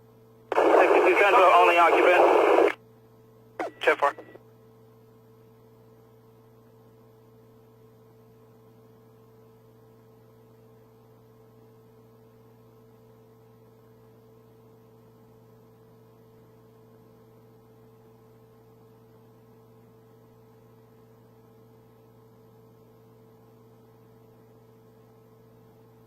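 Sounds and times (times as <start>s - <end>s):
faint electrical hum with hiss: 0.0s - 26.0s.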